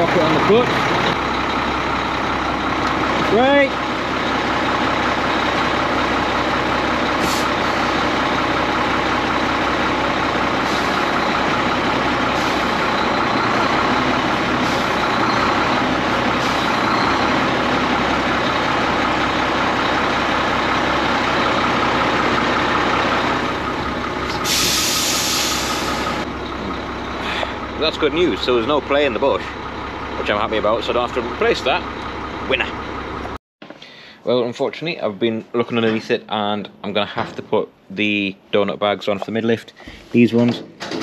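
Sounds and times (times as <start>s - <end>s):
diesel engine running at low revs: 0.0s - 34.0s.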